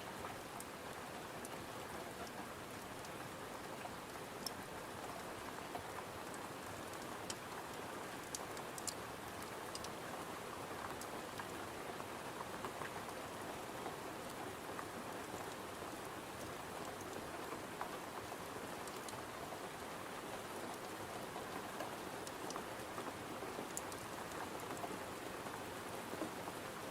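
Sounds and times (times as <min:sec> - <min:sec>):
gentle rain hissing: 0:00.0 - 0:26.9.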